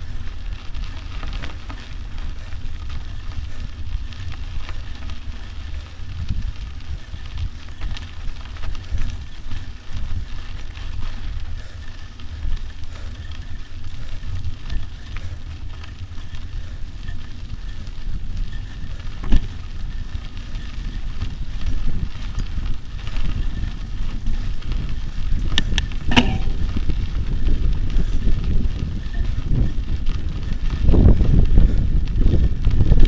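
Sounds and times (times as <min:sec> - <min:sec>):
bike tyres crackling on gravel: 0:00.0 - 0:33.0
wind rumbling on microphone: 0:00.0 - 0:33.0.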